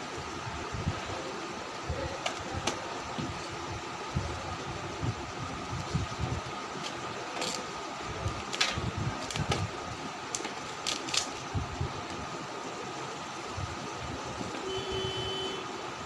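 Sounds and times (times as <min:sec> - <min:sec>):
steady fan-like hum: 0:00.0 - 0:16.0.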